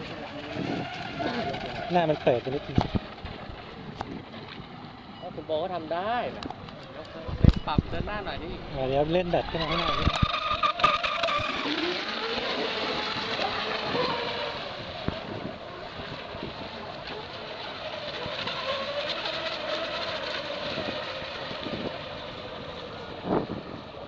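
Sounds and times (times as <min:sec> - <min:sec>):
model boat motor whine: 0:00.0 - 0:24.0.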